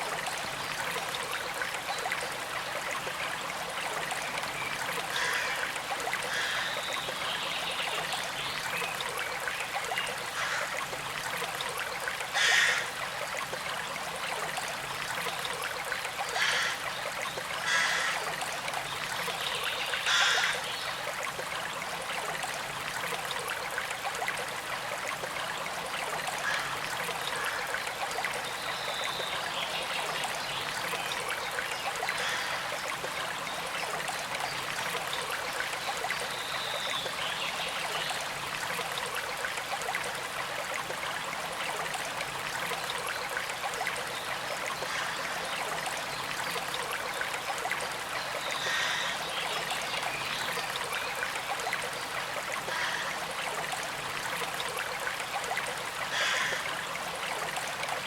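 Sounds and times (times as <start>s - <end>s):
small stream trickling: 0.0s - 58.0s.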